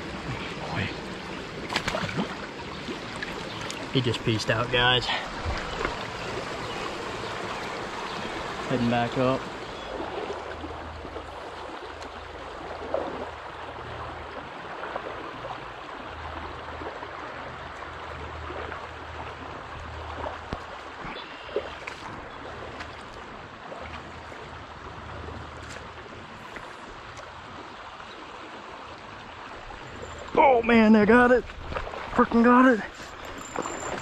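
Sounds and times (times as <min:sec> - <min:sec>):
stream running water: 0:00.0 - 0:34.0.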